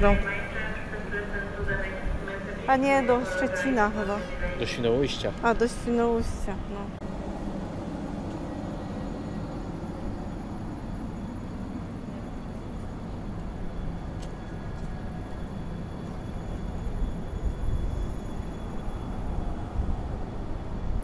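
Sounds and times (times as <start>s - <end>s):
faint high whines: 0.0s - 21.0s
train low rumble: 0.0s - 21.0s.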